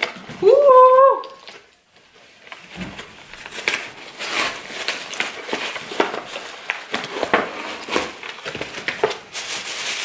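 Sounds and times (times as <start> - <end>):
paper tearing and crinkling: 1.3 - 10.0.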